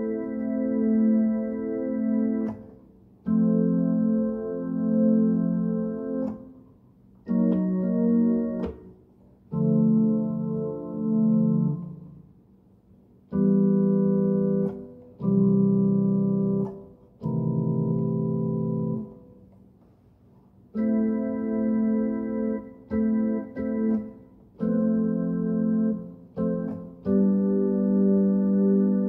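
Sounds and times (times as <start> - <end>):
electronic keyboard organ chords: 0.0 - 12.4, 13.3 - 19.6, 20.7 - 29.0.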